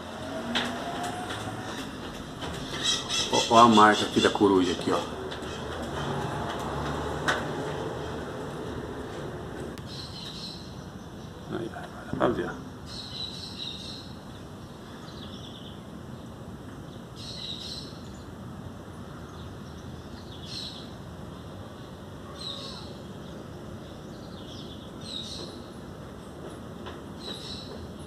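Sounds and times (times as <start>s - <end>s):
birds chirping: 0.0s - 18.4s, 19.1s - 28.0s
low background noise: 0.0s - 28.0s.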